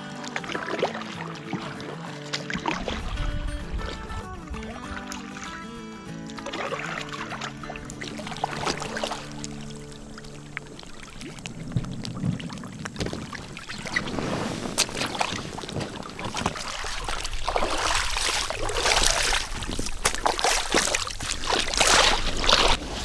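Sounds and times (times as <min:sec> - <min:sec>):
feet wading through shallow water: 0:00.0 - 0:23.0
kayak paddle dipping in water: 0:00.0 - 0:23.0.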